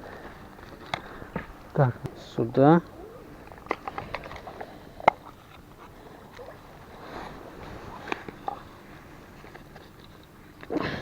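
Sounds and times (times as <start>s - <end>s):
faint rustle: 0.0s - 11.0s.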